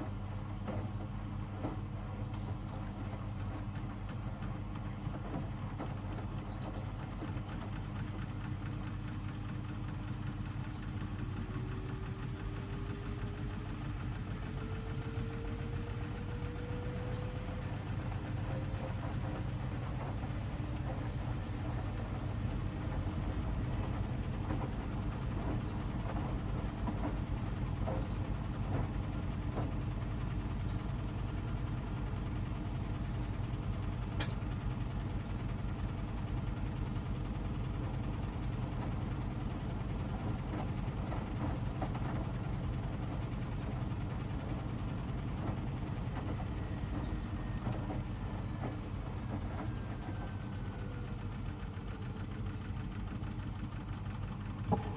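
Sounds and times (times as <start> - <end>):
washing machine motor hum: 0.0 - 54.9.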